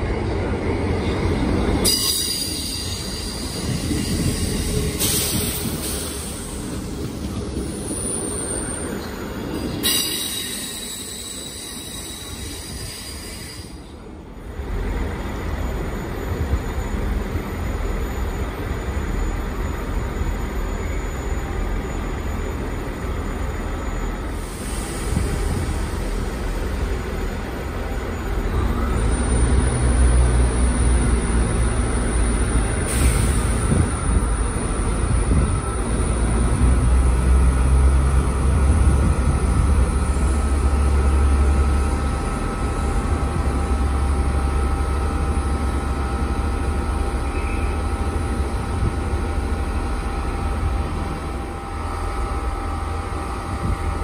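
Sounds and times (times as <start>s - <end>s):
train wheels squealing on rails: 0.0s - 54.0s.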